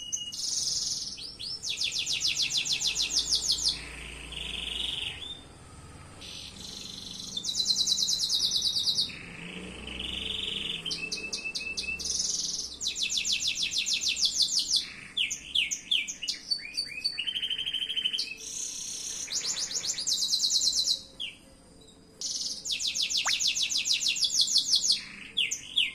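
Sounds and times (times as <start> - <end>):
canary singing trills: 0.0 - 21.4, 22.2 - 25.9.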